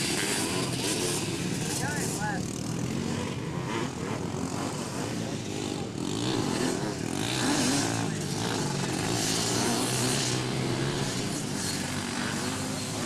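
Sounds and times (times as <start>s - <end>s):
racing quad engines revving: 0.0s - 13.0s.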